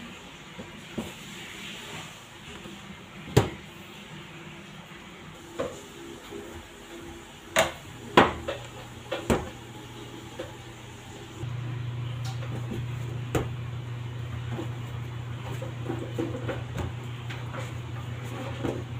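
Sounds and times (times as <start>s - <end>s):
low steady hum: 2.4s - 18.9s.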